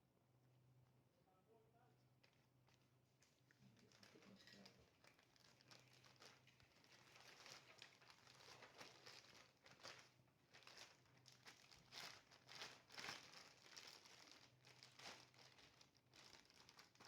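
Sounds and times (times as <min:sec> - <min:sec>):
faint steady low hum: 0:00.0 - 0:17.0
crinkling and rustling handling: 0:02.1 - 0:17.0.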